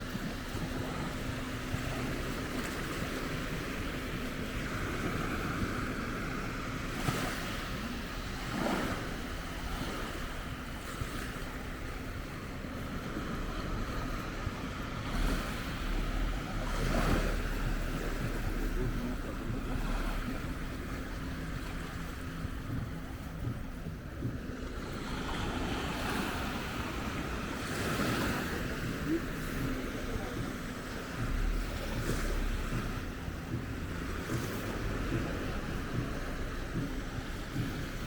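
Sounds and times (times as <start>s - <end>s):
sea waves washing onto shore: 0.0s - 38.0s
wind buffeting microphone: 0.0s - 38.0s.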